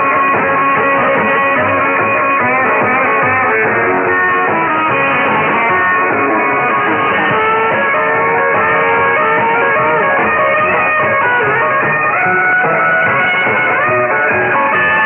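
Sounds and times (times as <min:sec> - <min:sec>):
guitar music over am radio: 0:00.0 - 0:15.0.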